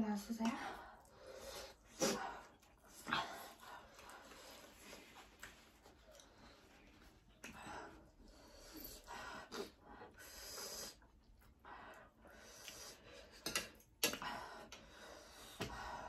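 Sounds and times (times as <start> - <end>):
heavy breathing and sniffing: 0.0 - 16.0.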